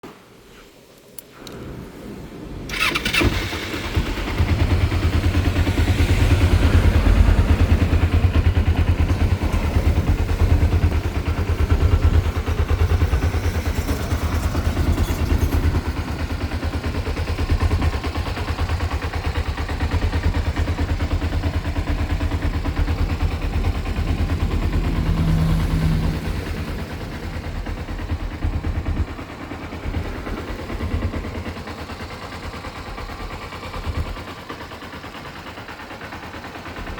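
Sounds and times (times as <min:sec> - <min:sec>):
motorcycle engine starting and running: 0:01.2 - 0:36.9.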